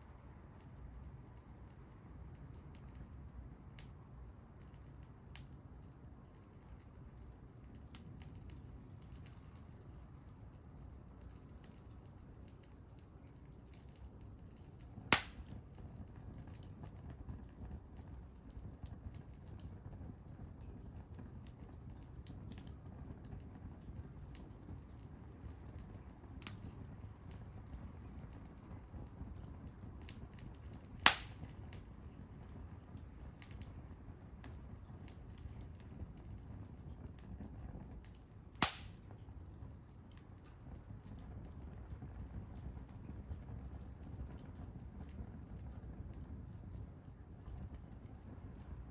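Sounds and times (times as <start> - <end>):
wood fire crackling: 0.0 - 48.9
sharp pops from fire: 0.4 - 48.9.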